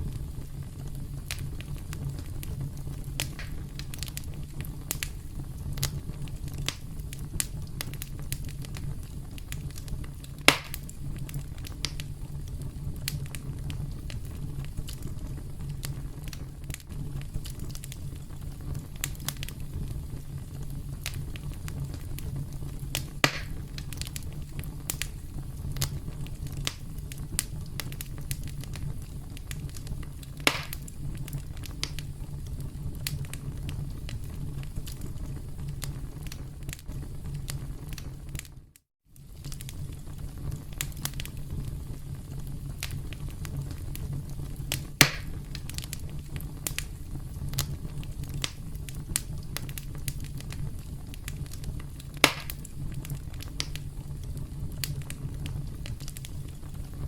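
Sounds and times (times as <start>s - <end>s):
burning wood popping: 0.0s - 38.6s, 39.2s - 57.0s
campfire crackling: 0.0s - 57.0s.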